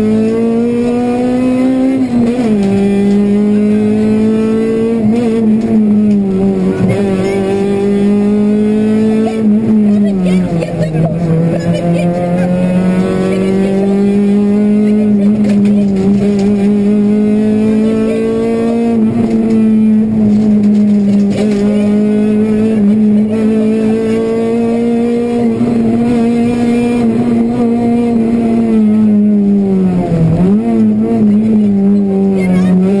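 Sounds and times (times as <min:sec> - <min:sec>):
car engine at high revs: 0:00.0 - 0:33.0.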